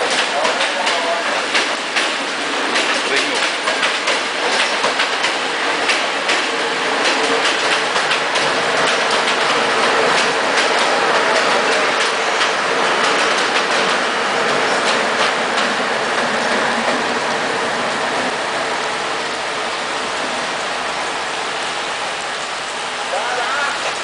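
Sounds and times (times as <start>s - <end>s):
train wheels clacking: 0.0s - 20.6s
train rolling rumble: 0.0s - 24.0s.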